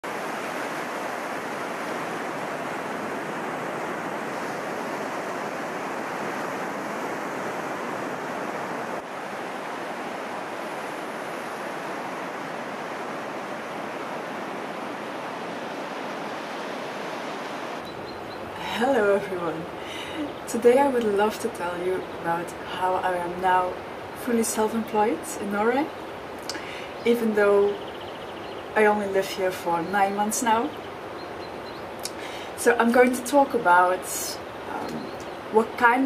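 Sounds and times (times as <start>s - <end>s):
ocean waves breaking on beach: 0.0s - 36.0s.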